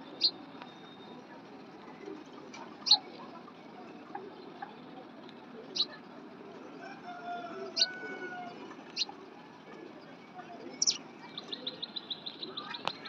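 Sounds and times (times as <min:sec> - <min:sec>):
faint background noise: 0:00.0 - 0:13.0
small birds chirping: 0:00.0 - 0:13.0.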